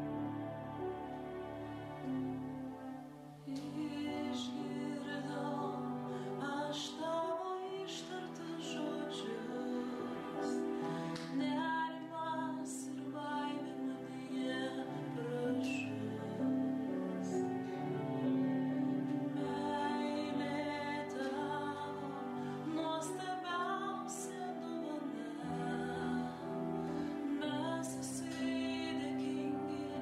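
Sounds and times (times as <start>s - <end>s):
hymn music with sustained chords: 0.0s - 30.0s.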